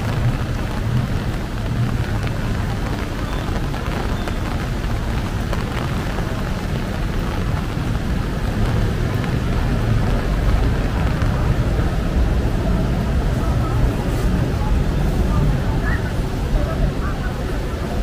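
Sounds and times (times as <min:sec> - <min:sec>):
city traffic rumble: 0:00.0 - 0:18.0
steady rain: 0:00.0 - 0:18.0.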